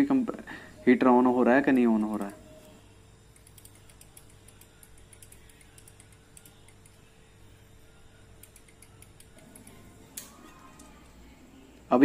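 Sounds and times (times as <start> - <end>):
faint compressor hum: 0.0 - 12.0.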